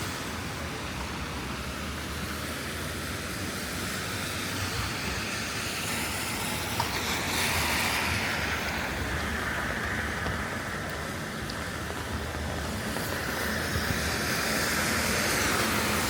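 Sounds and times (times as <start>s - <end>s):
rain hissing on wet street: 0.0s - 16.0s
traffic: 0.0s - 16.0s.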